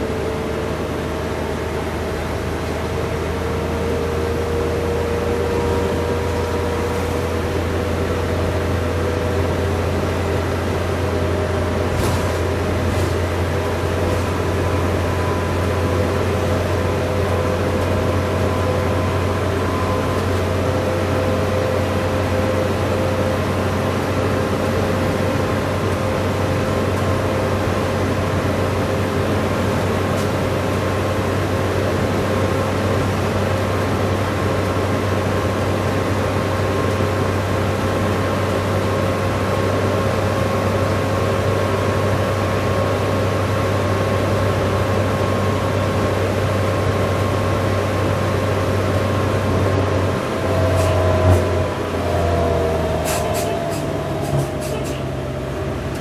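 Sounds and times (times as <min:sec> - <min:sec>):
bus engine drone: 0:00.0 - 0:56.0
road noise: 0:00.0 - 0:56.0.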